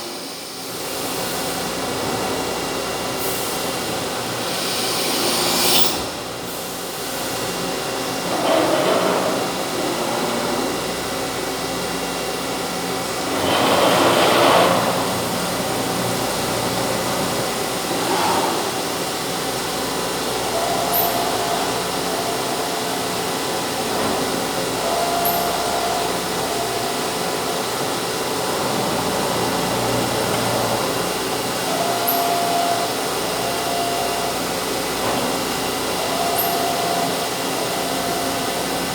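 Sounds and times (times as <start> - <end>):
cnc machine running: 0.0 - 38.9.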